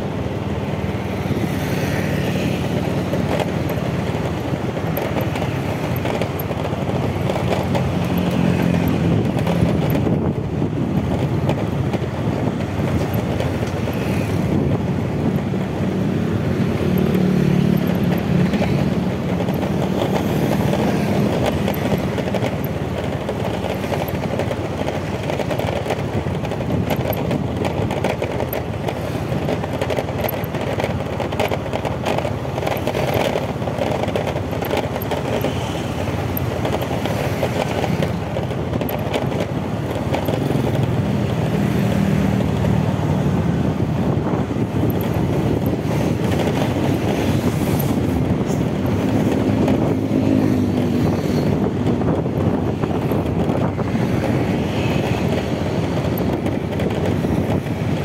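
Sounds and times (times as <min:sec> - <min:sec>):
motorcycle engine running: 0:00.0 - 0:58.0
street traffic: 0:00.0 - 0:58.0
wind and road noise: 0:00.0 - 0:58.0.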